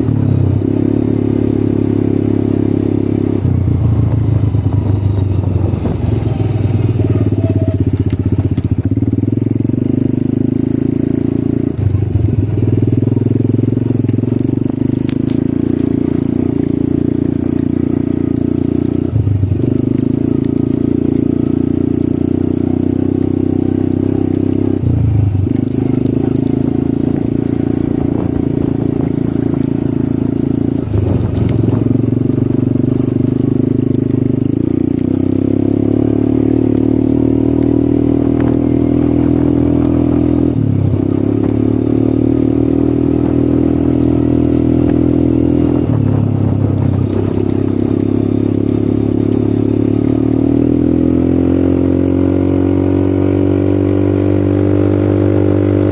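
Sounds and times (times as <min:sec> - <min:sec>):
atv engine drone: 0:00.0 - 0:55.9.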